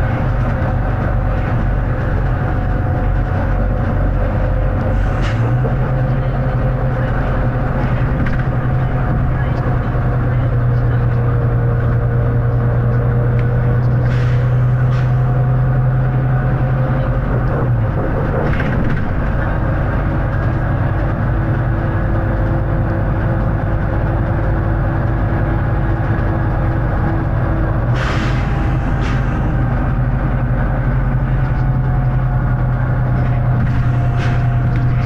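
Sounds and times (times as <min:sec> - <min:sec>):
bus diesel engine drone: 0:00.0 - 0:35.0.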